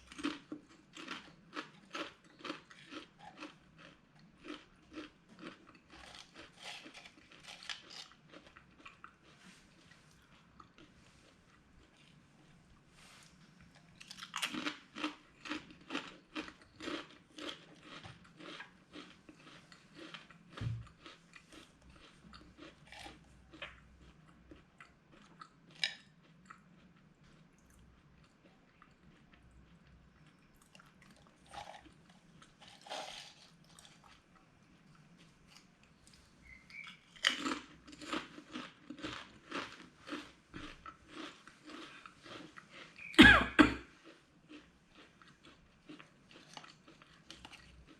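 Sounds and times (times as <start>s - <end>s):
person chewing crunchy snacks: 0.0s - 12.6s, 13.6s - 47.9s.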